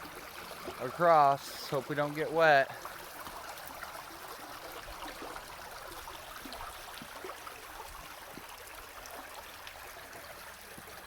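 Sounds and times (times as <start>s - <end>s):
creek water over rocks: 0.0s - 11.0s.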